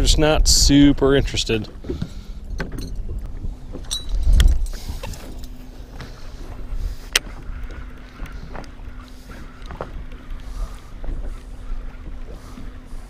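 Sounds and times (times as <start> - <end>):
choppy water: 0.0 - 13.0
faint steady hum: 0.0 - 13.0
wind: 0.0 - 13.0.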